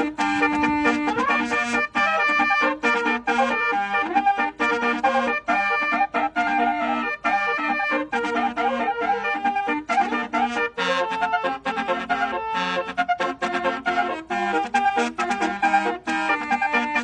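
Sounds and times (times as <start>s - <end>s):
multi-tone horn playing a tune: 0.0s - 17.0s.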